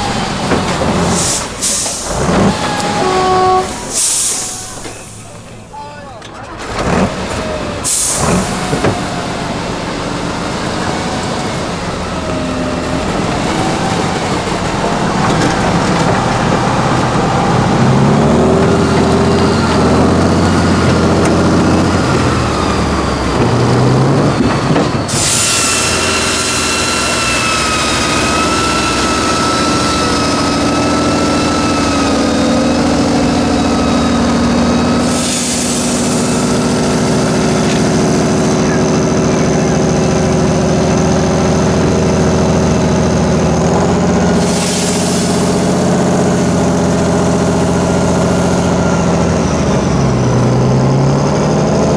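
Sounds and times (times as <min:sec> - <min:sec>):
diesel truck engine revving: 0:00.0 - 0:51.9.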